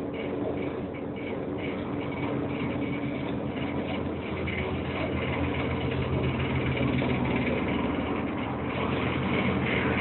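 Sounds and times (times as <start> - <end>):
ship engine drone: 0.0 - 10.0.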